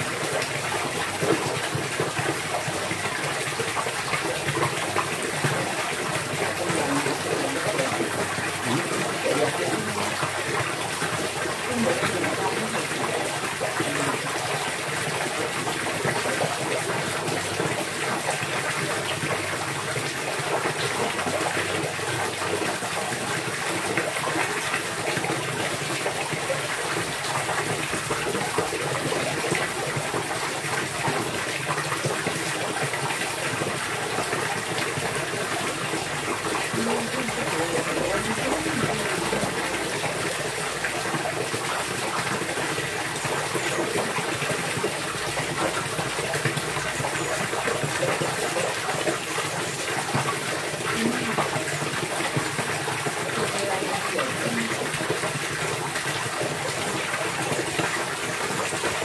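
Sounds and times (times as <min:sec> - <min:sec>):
flowing water splashing: 0:00.0 - 0:59.0.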